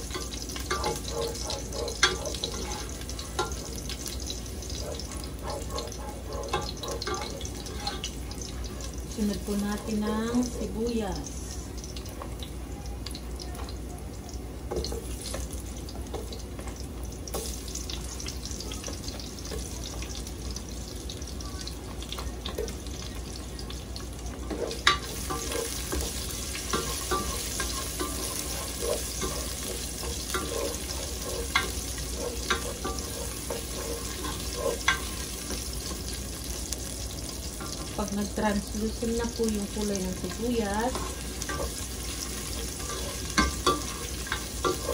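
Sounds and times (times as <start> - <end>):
garlic frying in hot oil: 0.0 - 44.9.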